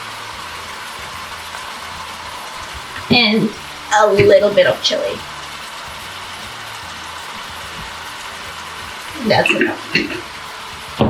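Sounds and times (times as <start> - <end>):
meat and vegetables sizzling in pan: 0.0 - 11.0.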